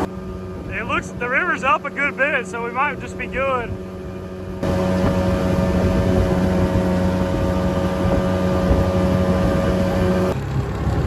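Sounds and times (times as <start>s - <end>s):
jet boat engine running: 0.0s - 11.0s.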